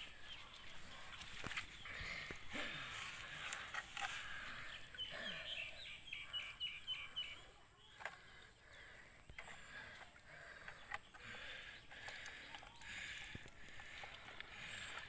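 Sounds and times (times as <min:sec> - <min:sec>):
birdsong: 0:00.0 - 0:15.0.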